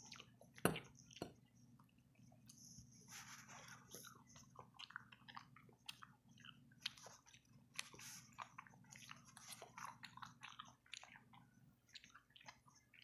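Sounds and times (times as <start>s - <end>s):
wet chewing of olive: 0.0s - 13.0s.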